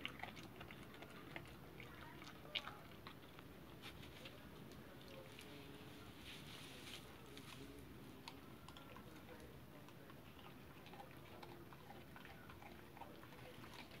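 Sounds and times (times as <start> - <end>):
puppy chewing cucumber: 0.0 - 14.0.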